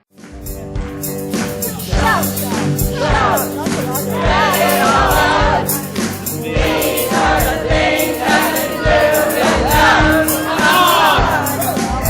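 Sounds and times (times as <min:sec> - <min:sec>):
band accompaniment: 0:00.2 - 0:12.0
drum hits: 0:00.5 - 0:12.0
choir singing: 0:01.6 - 0:12.0.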